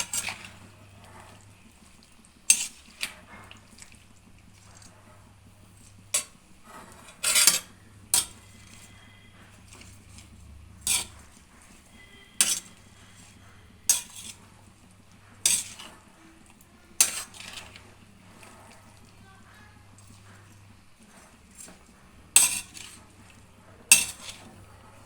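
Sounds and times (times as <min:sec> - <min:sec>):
spoon scraping cooking pan: 0:00.0 - 0:25.0.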